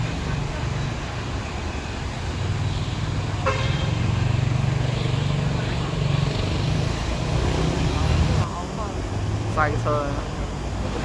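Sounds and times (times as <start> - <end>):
road noise: 0.0 - 11.0
vehicle engines rumbling: 0.0 - 11.0.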